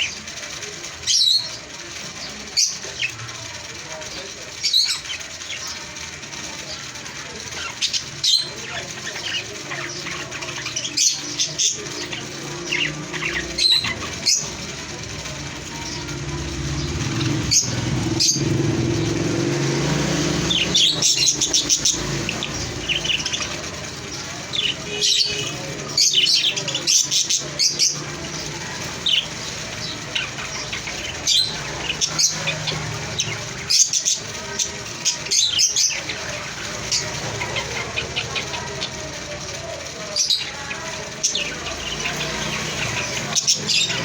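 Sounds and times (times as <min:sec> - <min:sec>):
small parrots chirping: 0:02.6 - 0:44.0.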